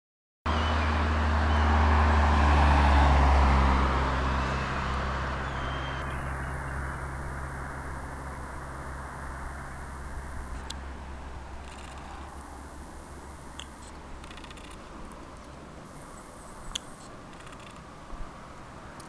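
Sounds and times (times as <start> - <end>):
vehicle engine and tyre noise: 0.5 - 19.0.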